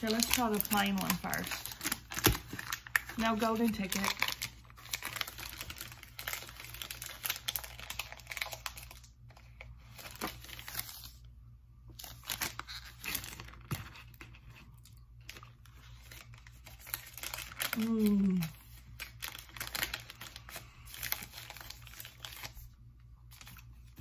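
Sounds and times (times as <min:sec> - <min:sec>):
wrapper crinkling and tearing: 0:00.0 - 0:11.3, 0:11.9 - 0:24.0.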